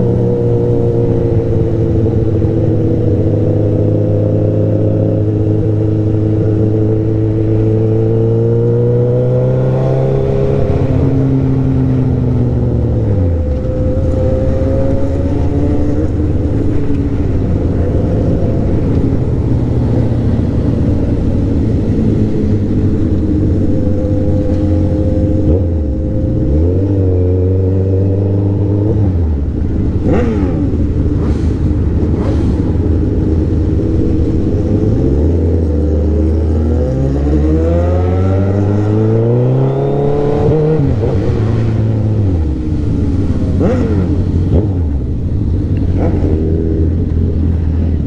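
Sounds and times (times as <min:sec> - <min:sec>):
vehicle engines revving: 0:00.0 - 0:48.0.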